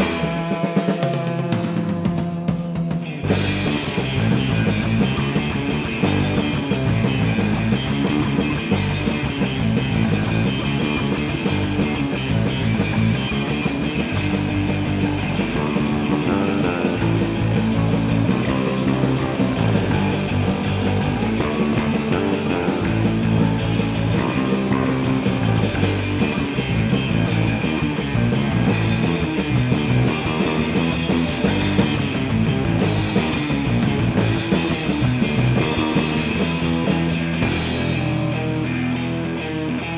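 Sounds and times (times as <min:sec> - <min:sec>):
instrumental rock music with guitar: 0:00.0 - 0:39.9.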